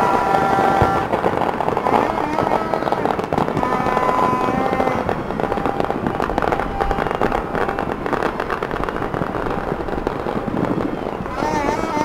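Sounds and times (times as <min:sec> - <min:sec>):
firecrackers crackling: 0:00.0 - 0:12.0
long steady tones: 0:00.0 - 0:12.0.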